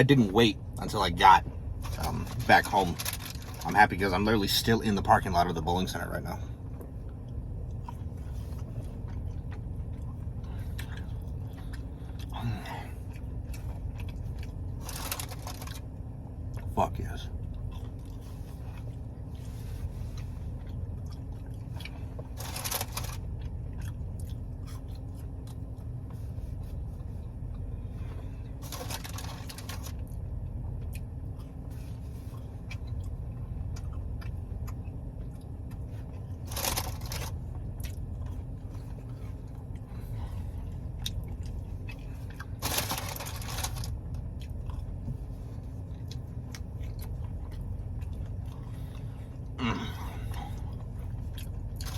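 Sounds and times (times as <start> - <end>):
steady low hum: 0.0 - 51.9
person chewing food: 6.7 - 16.8, 17.4 - 51.9.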